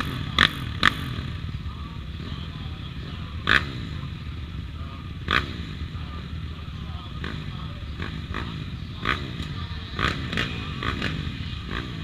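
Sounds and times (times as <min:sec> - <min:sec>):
small motorbike engine running: 0:00.0 - 0:12.0.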